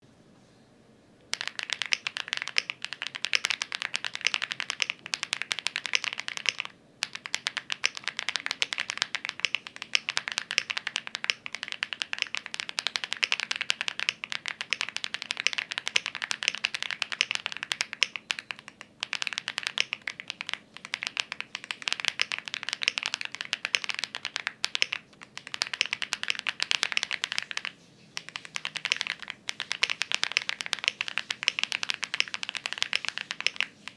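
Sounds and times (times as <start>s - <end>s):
mechanical keyboard typing: 1.3s - 33.9s.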